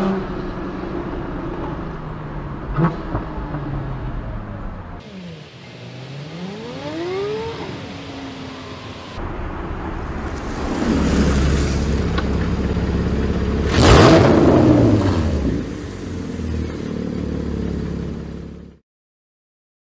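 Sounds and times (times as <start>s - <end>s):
car engine revving: 2.5s - 18.6s.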